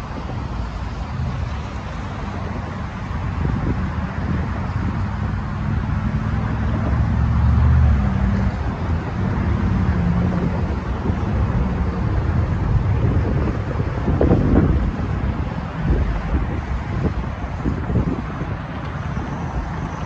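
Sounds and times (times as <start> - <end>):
vehicles driving over rail crossing: 0.0 - 20.0
wind buffeting microphone: 0.0 - 20.0.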